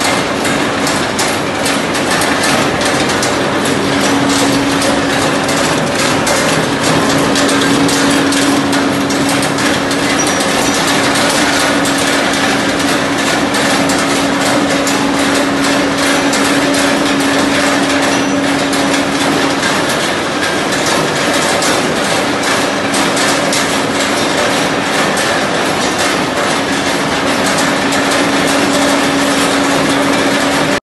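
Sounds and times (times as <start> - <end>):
motor hum: 0.0 - 30.8.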